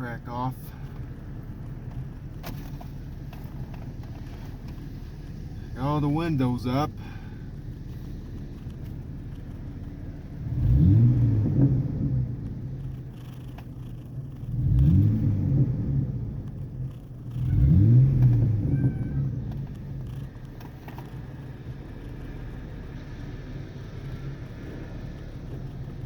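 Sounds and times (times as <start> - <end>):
truck engine accelerating: 0.0 - 26.0.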